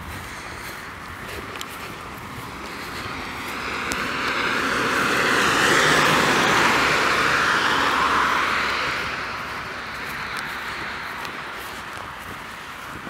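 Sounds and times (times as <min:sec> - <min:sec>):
vehicles passing on asphalt: 0:00.0 - 0:13.0.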